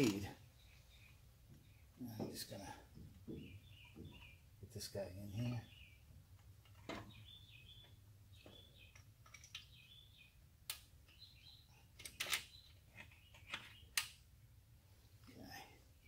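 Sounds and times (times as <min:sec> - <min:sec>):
birds chirping: 0:00.0 - 0:14.2, 0:14.9 - 0:16.0.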